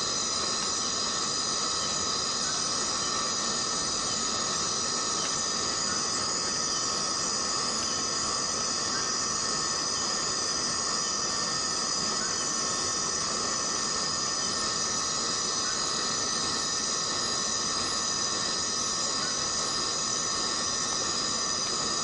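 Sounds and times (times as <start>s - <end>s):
cicadas chorus: 0.0s - 22.0s.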